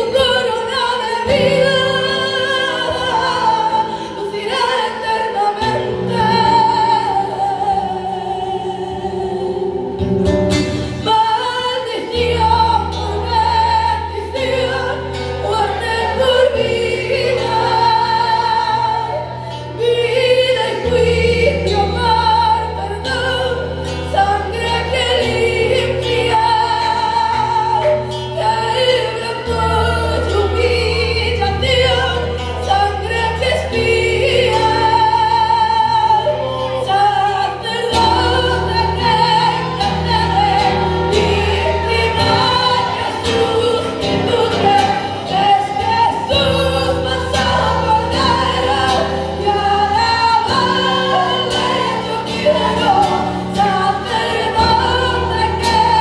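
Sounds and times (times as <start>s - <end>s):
acoustic guitar: 0.0s - 56.0s
woman singing into a microphone: 0.0s - 56.0s.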